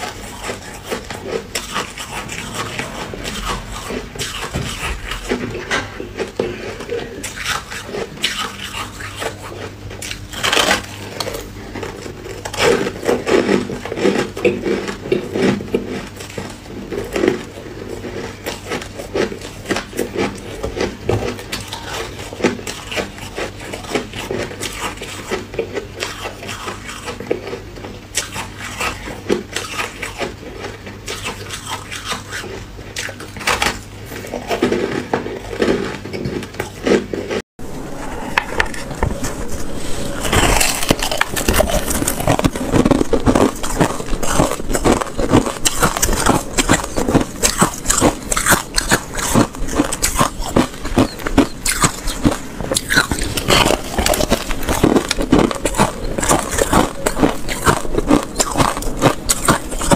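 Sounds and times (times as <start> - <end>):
ice crunching while chewed: 0.0 - 37.4, 38.1 - 59.9.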